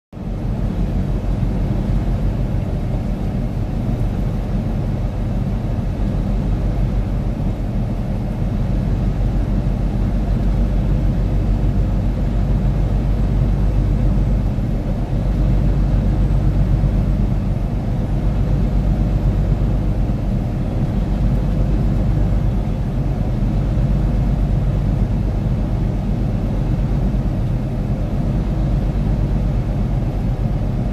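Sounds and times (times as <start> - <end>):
vehicle driving at highway speed: 0.2 - 30.9.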